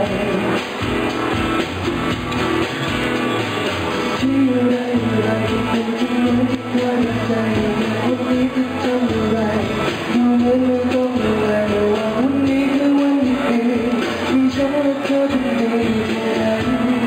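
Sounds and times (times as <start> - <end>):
man singing into a microphone: 0.0 - 1.0, 4.0 - 17.0
amplified musical accompaniment: 0.0 - 17.0.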